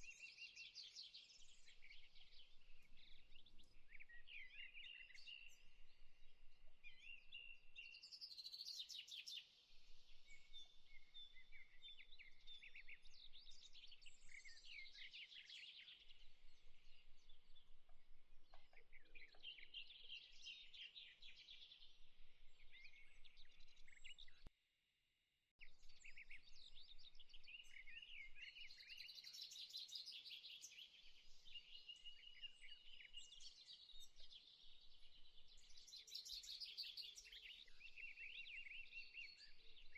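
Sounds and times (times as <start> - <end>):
small birds chirping and trilling: 0.0 - 24.5, 25.6 - 39.9.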